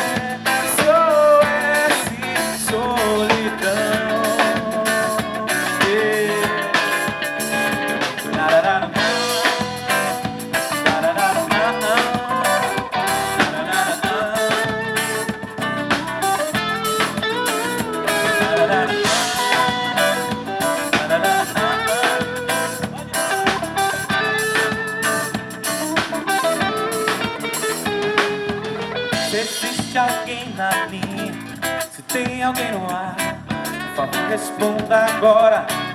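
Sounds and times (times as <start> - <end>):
drums: 0.0 - 35.9
lead guitar: 0.0 - 35.9.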